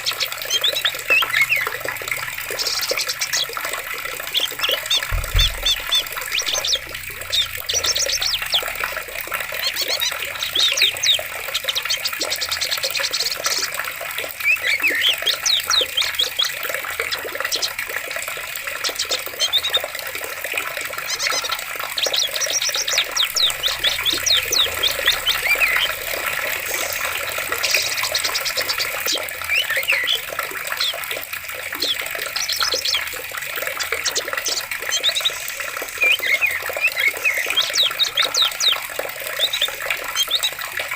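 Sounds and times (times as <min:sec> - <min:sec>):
birds chirping and trilling: 0:00.0 - 0:40.9
flowing water rushing: 0:00.0 - 0:40.9.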